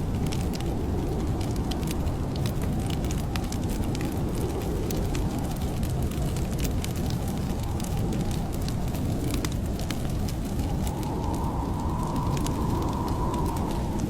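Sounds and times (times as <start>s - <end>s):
low rumble of blizzard wind: 0.0s - 14.0s
wood fire crackling and popping: 0.0s - 14.0s.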